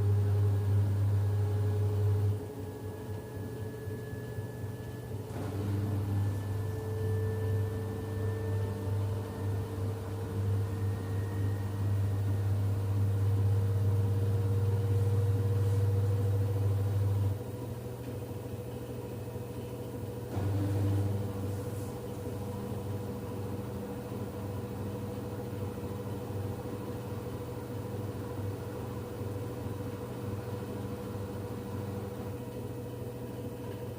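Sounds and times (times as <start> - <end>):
washing machine motor whine: 0.0 - 33.9.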